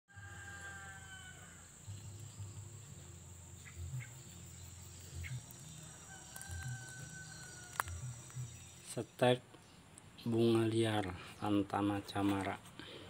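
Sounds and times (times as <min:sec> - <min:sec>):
insects droning: 0:00.1 - 0:13.0.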